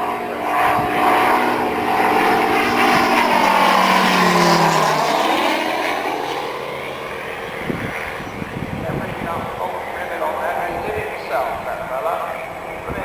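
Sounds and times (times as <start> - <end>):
model aircraft engine flying past: 0.0 - 13.0.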